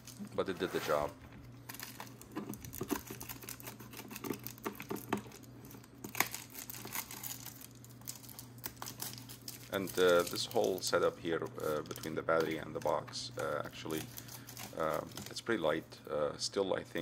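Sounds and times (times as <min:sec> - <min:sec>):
foil insulation crinkling: 0:00.0 - 0:15.8.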